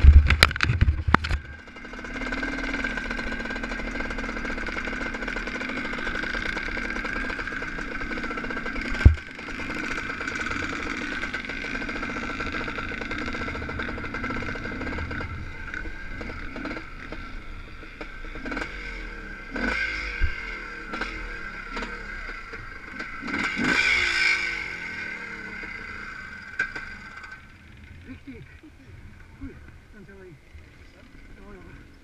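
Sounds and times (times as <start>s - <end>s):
motorcycle engine running at low revs: 0.0s - 32.0s.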